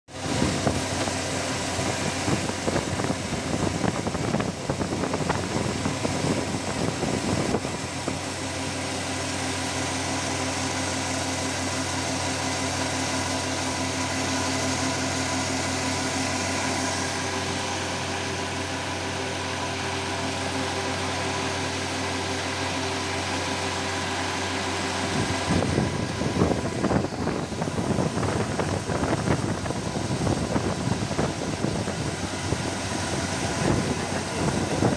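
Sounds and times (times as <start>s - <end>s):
coolant spray hiss: 0.1s - 34.9s.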